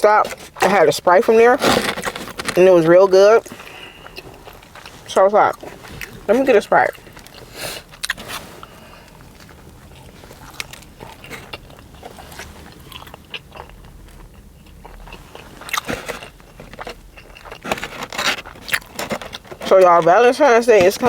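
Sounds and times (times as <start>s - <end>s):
biting and chewing sandwich: 0.1s - 21.0s.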